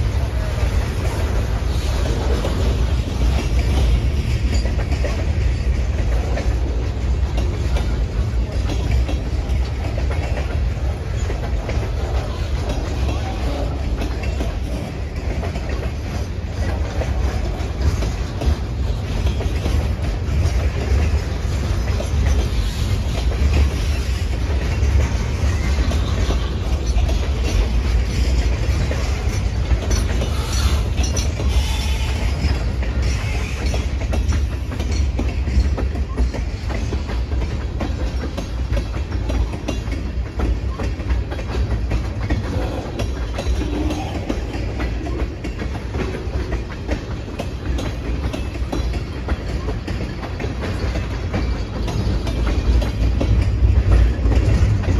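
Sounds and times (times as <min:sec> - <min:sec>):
freight train rolling past: 0:00.0 - 0:54.9
wheels clicking over rail: 0:00.0 - 0:54.9.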